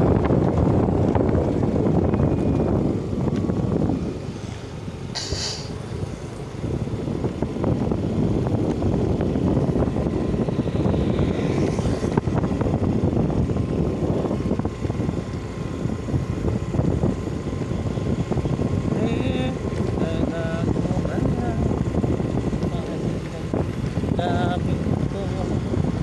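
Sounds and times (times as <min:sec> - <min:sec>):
motorcycle engine: 0:00.0 - 0:26.0
wind buffeting microphone: 0:00.0 - 0:26.0.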